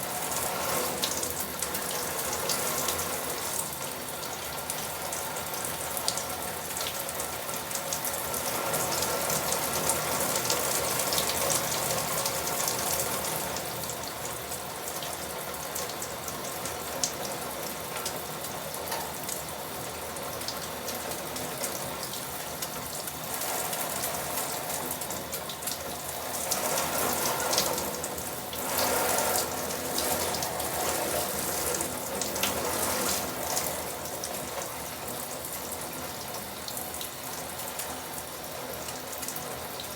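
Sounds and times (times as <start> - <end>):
tap water running and spattering: 0.0 - 39.9.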